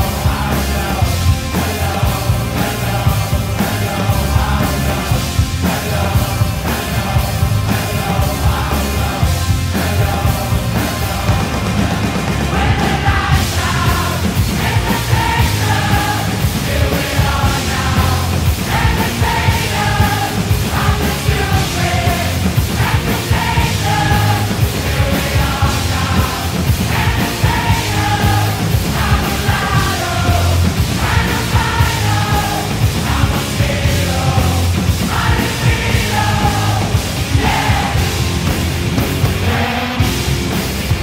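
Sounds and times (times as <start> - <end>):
rock music: 0.0 - 41.0.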